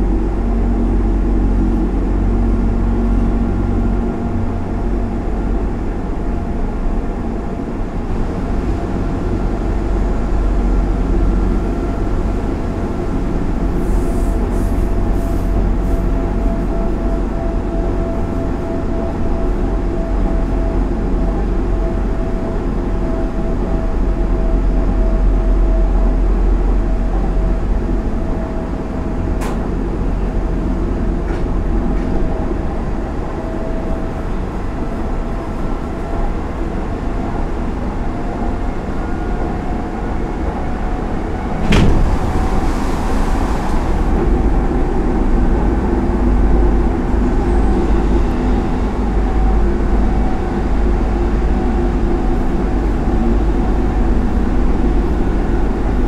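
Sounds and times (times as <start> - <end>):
faint train whine: 0.0 - 56.0
train wheels rumbling on rail: 0.0 - 56.0.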